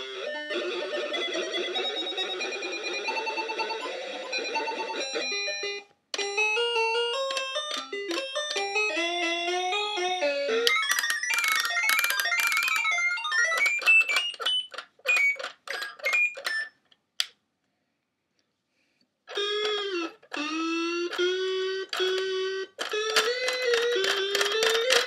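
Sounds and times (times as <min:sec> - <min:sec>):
glitching electronic toy melody: 0:00.0 - 0:16.8, 0:19.3 - 0:25.0.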